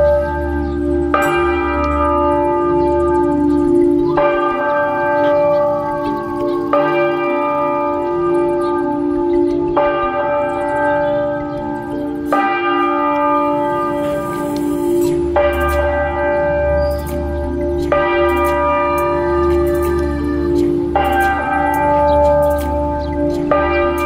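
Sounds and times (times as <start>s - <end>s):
church bell tolling: 0.0s - 24.0s.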